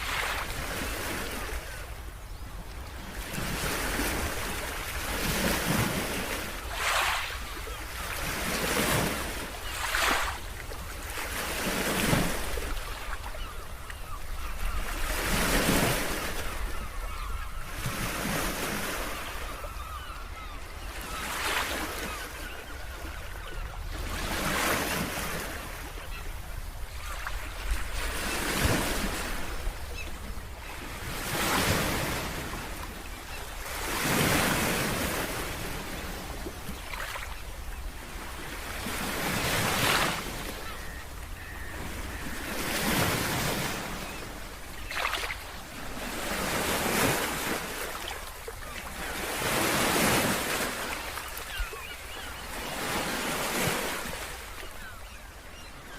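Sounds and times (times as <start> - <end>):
ocean waves breaking on beach: 0.0 - 55.9.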